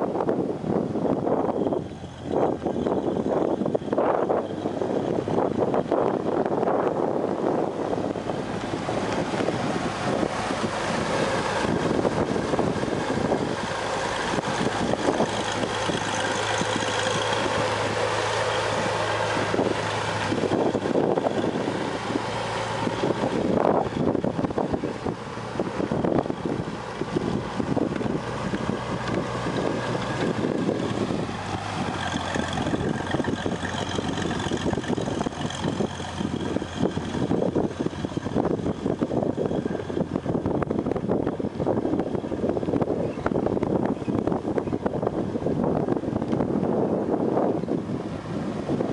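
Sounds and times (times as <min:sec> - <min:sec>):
forklift engine running: 0:00.0 - 0:48.9.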